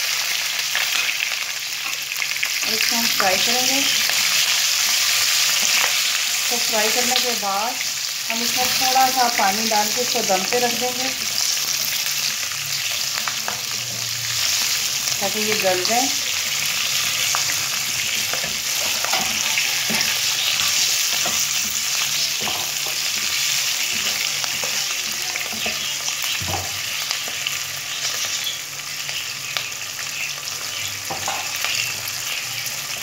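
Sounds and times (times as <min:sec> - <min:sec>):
chillies sizzling in oil: 0:00.0 - 0:33.0.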